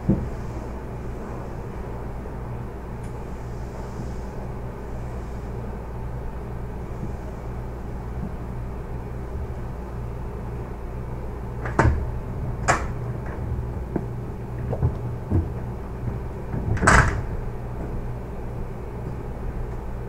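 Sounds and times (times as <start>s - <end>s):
low hum of train equipment: 0.0s - 20.0s.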